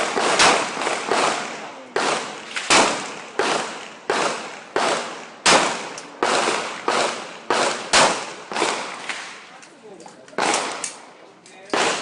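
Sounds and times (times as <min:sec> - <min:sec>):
gunshots with long echo: 0:00.0 - 0:09.4, 0:10.4 - 0:11.1, 0:11.7 - 0:12.0.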